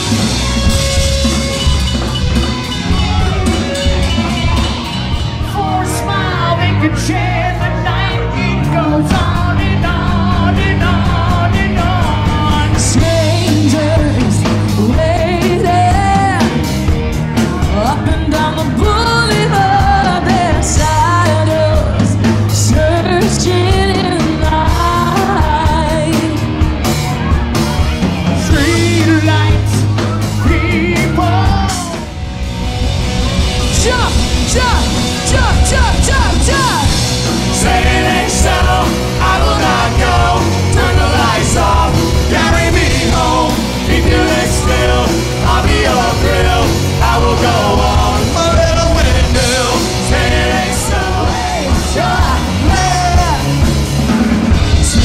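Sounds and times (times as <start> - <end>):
live rock band playing: 0.0 - 55.0
lead vocal singing: 4.8 - 16.7, 17.6 - 26.4, 28.4 - 32.2, 33.8 - 55.0.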